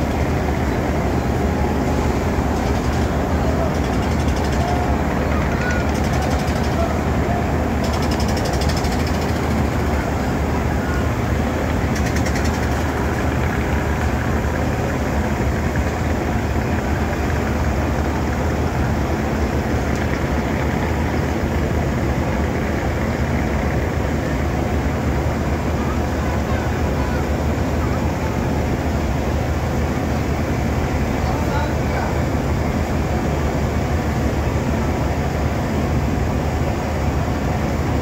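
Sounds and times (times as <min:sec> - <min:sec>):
boat diesel engine droning: 0:00.0 - 0:38.0.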